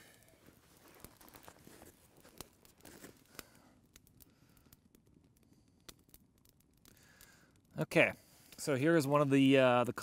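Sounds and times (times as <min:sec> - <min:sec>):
campfire crackling pops: 0:00.0 - 0:10.0.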